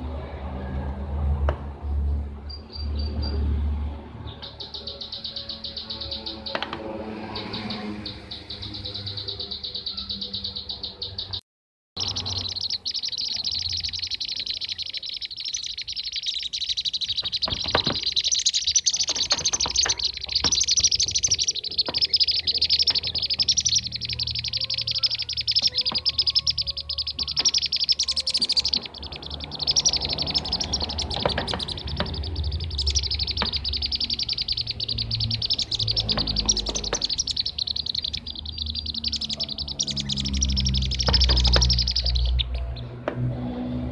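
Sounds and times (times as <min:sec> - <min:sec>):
flock of birds chattering: 0:04.4 - 0:11.4, 0:12.0 - 0:43.0.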